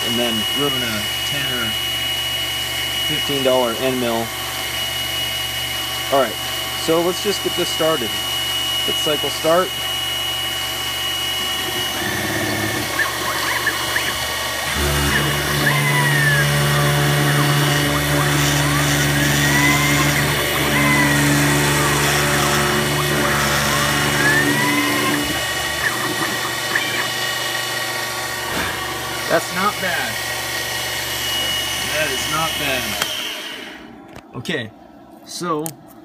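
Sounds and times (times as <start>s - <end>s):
end mill cutting plastic: 0.0s - 33.9s
milling machine spindle running: 0.0s - 33.9s
axis motors whining: 0.0s - 34.2s.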